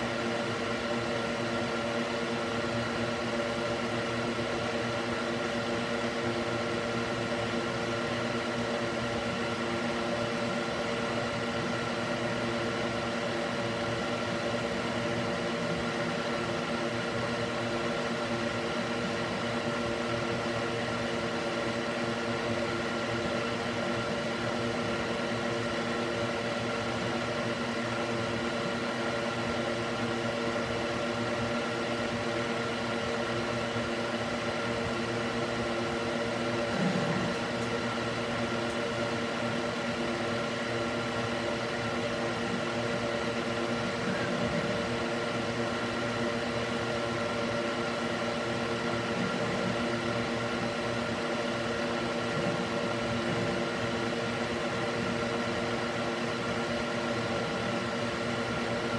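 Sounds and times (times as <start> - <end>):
electric fan whirring: 0.0 - 58.9.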